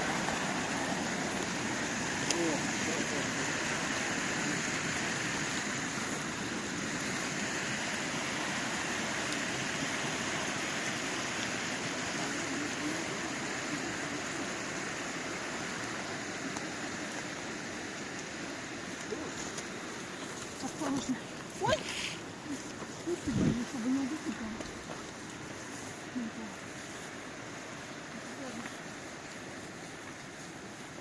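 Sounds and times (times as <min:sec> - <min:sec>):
stream water rushing: 0:00.0 - 0:31.0.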